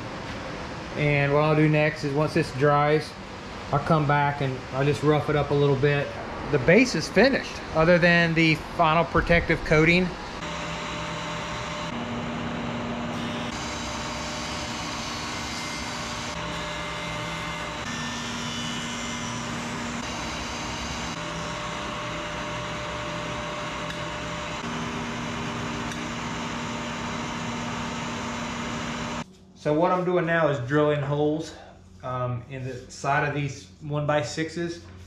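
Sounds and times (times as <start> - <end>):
boring machine humming: 0.8 - 29.8.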